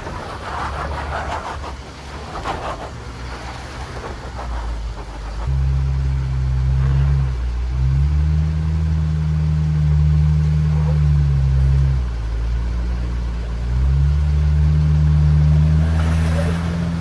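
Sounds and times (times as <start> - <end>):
engine pulling under throttle: 0.0 - 17.0.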